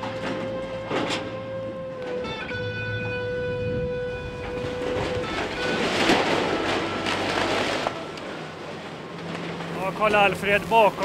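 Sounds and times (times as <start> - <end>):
sheet metal crunching: 0.0 - 9.7
excavator engine running: 0.0 - 11.0.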